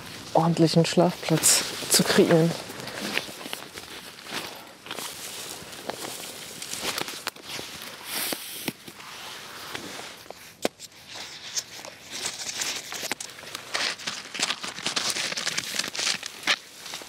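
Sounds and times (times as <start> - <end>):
foam pad rustling and crinkling: 0.0 - 17.0.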